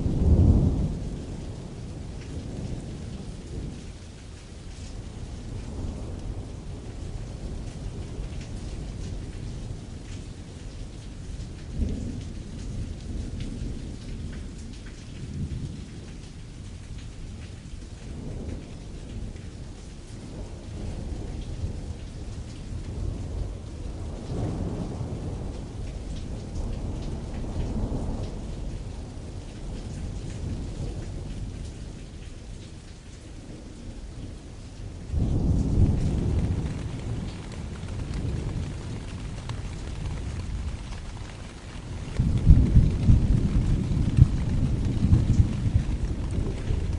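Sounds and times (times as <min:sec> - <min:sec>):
distant rolling thunder: 0:00.0 - 0:46.9
rain on canvas: 0:00.0 - 0:46.9.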